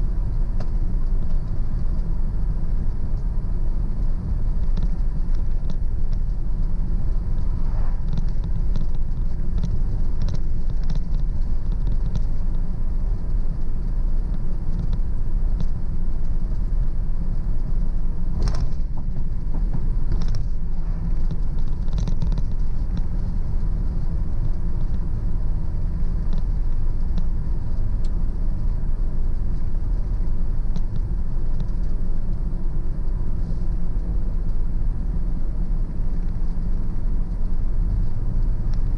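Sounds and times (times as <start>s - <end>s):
car tyre and engine rumble: 0.0s - 38.9s.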